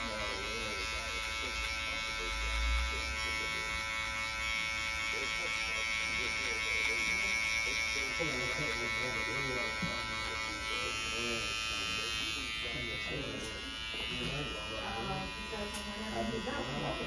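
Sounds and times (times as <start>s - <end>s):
hair clipper buzzing: 0.0s - 17.0s.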